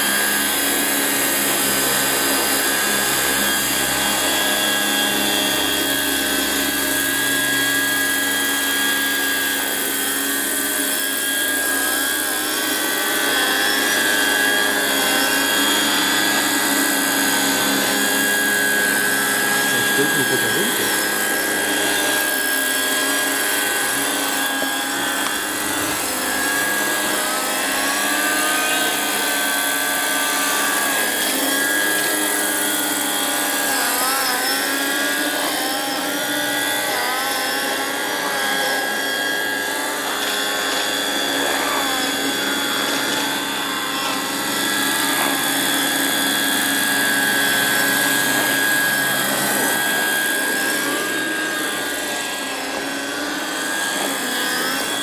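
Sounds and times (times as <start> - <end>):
model helicopter electric whine: 0.0 - 55.0
rotors whirring: 0.0 - 55.0.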